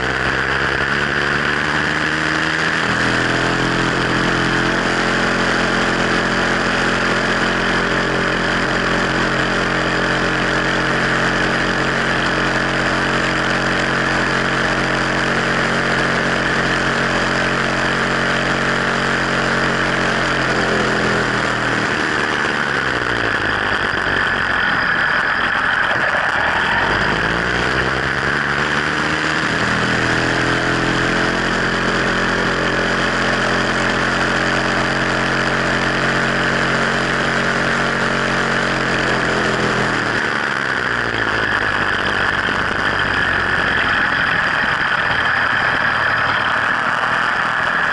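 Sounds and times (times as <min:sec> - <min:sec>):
two-stroke bicycle engine running: 0:00.0 - 0:47.9.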